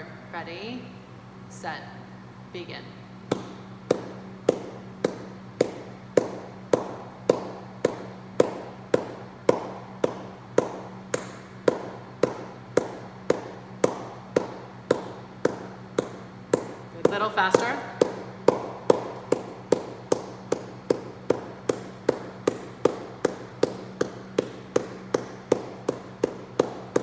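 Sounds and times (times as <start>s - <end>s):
hand claps: 3.3s - 27.0s.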